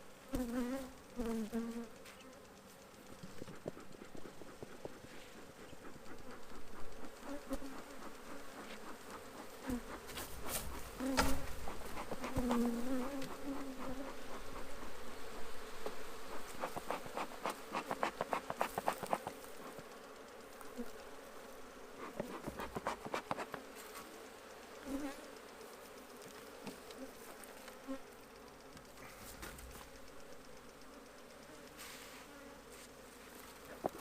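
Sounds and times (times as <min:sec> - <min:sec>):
honeybees buzzing: 0:00.0 - 0:34.0
scattered clicks: 0:00.4 - 0:31.8.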